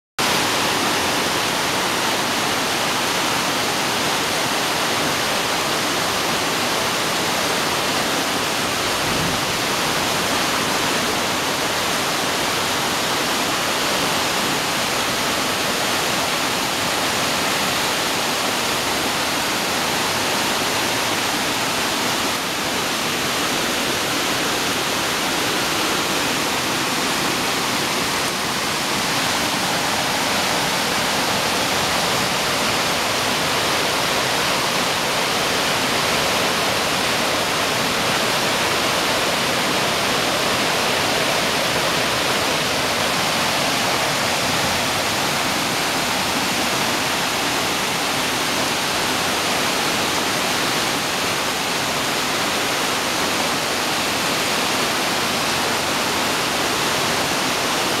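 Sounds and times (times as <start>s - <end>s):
floodwater rushing: 0.2s - 58.0s
heavy rain pouring: 0.2s - 58.0s.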